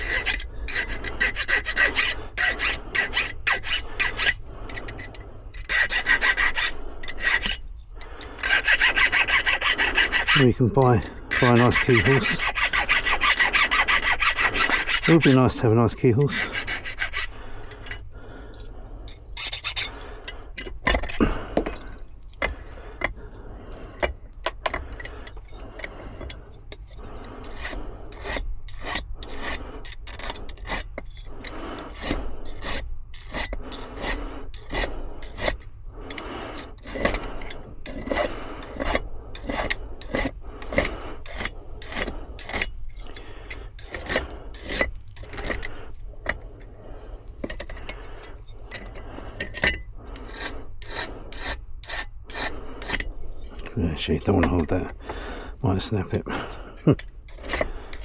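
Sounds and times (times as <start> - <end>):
hand file rasping on metal: 0.0 - 20.4, 21.0 - 58.0.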